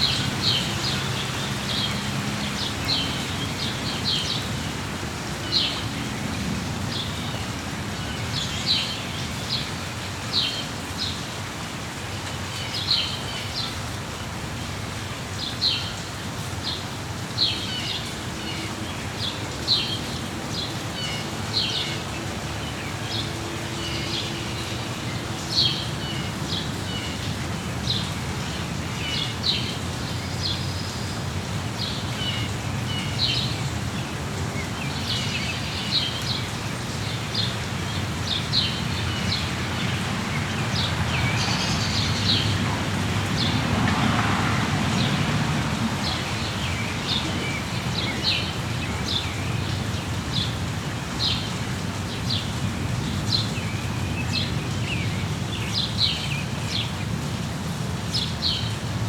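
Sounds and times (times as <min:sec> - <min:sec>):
small songbirds chirping: 0:00.0 - 0:44.2, 0:44.8 - 0:59.0
rain hiss and patter: 0:00.0 - 0:59.0.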